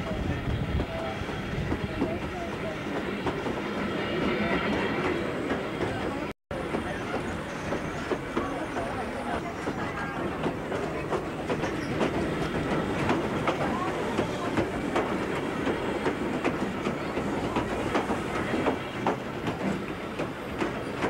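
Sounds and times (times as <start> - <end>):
passing train: 0.0 - 21.0
train wheels clattering over joints: 0.7 - 21.0.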